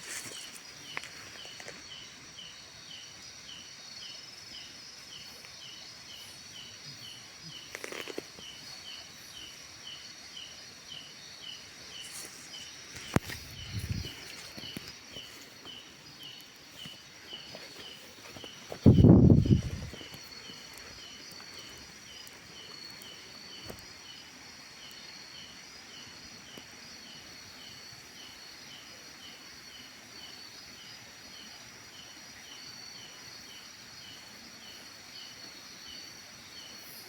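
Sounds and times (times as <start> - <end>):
insects chirping: 0.0 - 37.0.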